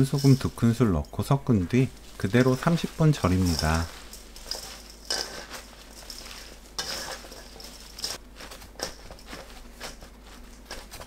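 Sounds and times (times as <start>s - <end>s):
hands mixing vegetables in bowl: 0.0s - 11.0s.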